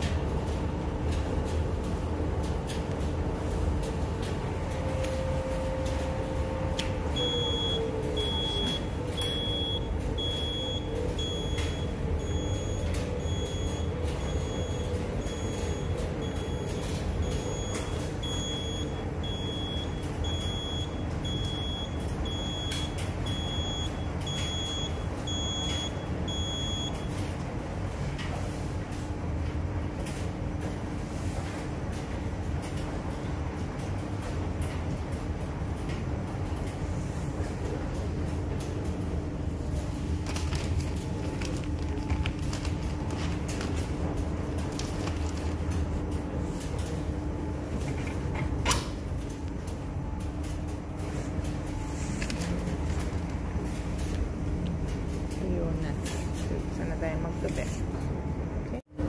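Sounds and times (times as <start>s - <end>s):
dryer beeping: 0.0s - 59.0s
dryer drum motor hum: 0.0s - 59.0s
low hum of machines: 0.0s - 59.0s.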